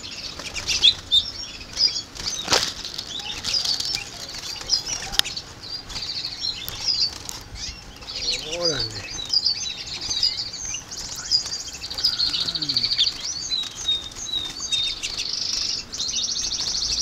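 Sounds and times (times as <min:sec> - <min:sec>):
finches chirping: 0:00.0 - 0:17.0
wings fluttering: 0:00.0 - 0:17.0.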